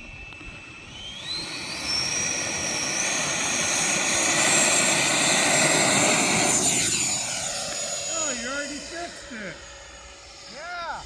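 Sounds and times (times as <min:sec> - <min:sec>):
model jet ducted fan whine: 0:00.0 - 0:11.0.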